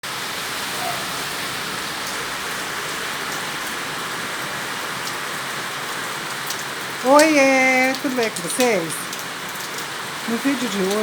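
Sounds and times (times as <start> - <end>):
heavy rain falling: 0.0 - 11.0
dripping ticks: 2.0 - 11.0.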